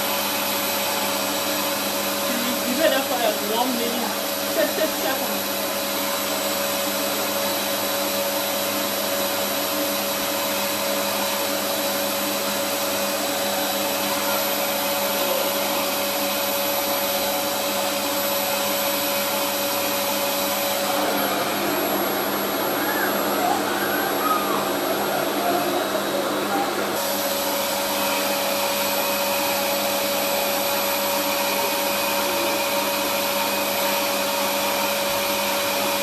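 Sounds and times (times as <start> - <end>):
hair dryer whirring: 0.0 - 36.0.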